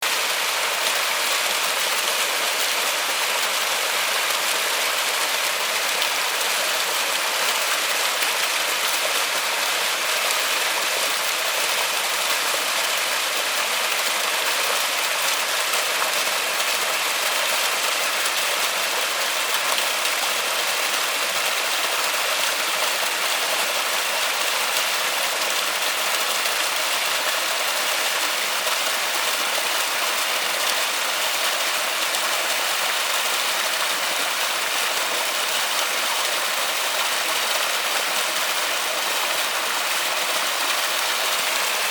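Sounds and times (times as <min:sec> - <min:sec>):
rain falling on water: 0:00.0 - 0:41.9.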